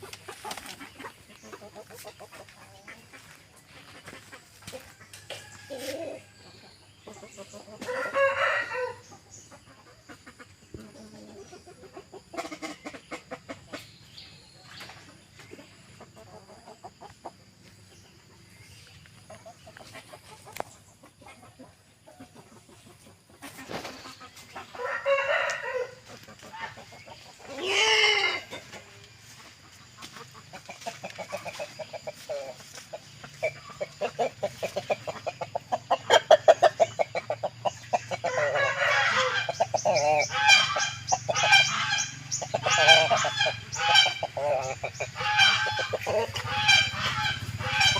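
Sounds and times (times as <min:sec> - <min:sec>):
chickens calling: 0:00.0 - 0:47.9
rapid chicken clucking: 0:00.0 - 0:47.9.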